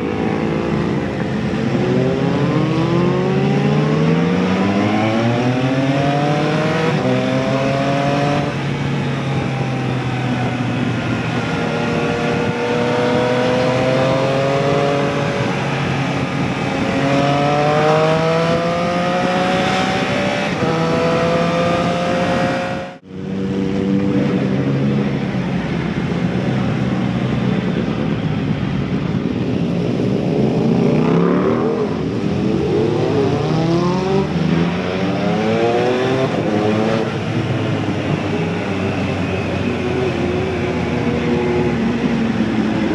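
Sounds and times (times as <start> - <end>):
motorcycle engine accelerating: 0.0 - 42.9
wind and road noise: 0.0 - 42.9.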